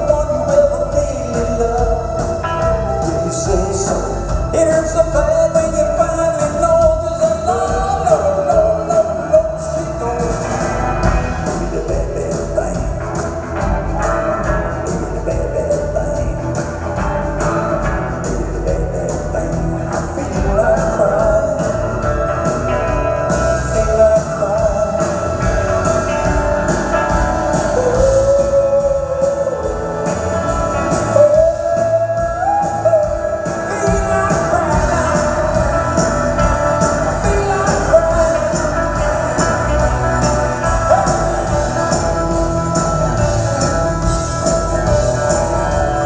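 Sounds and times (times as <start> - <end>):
electric guitar: 0.0 - 46.0
man singing lead vocals: 0.0 - 46.0
steady drum beat: 0.0 - 46.0.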